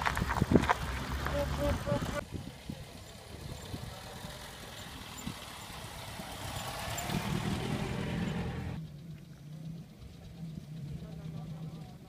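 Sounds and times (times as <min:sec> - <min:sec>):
car engine driving past: 0:00.7 - 0:12.0.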